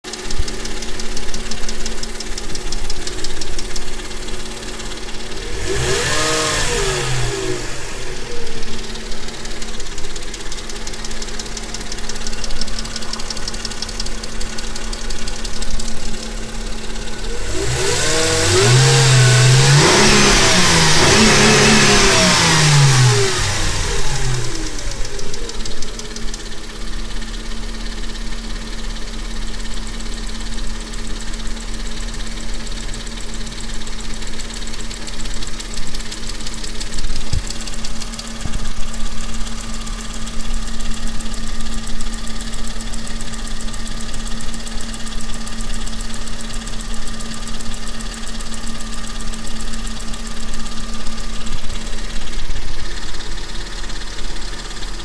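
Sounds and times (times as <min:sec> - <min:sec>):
car engine idling and revving: 0:00.0 - 0:55.0
rhythmic engine knock: 0:00.0 - 0:55.0.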